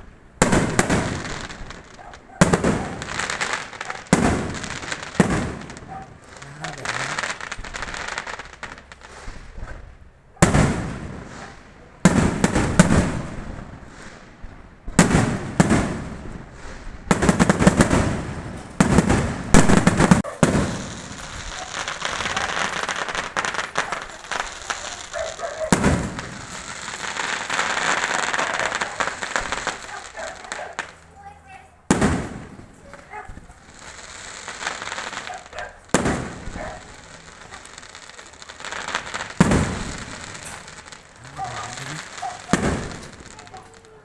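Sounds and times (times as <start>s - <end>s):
fireworks bangs: 0.0s - 44.0s
fireworks crackling: 0.0s - 44.0s.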